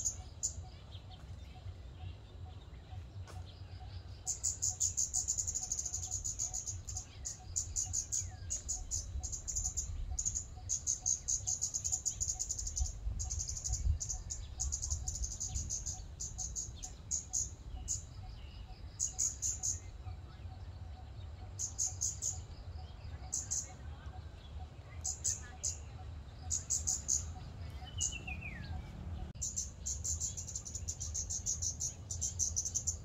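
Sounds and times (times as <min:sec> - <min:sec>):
bird ticking calls: 0:02.6 - 0:20.0, 0:21.0 - 0:23.8, 0:25.0 - 0:33.0.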